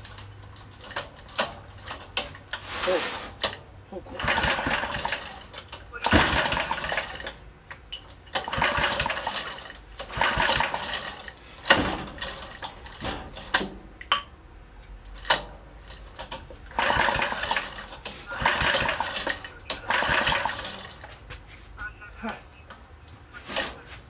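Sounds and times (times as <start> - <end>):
engine pull-starter cranking: 0.0 - 14.2, 14.8 - 21.3.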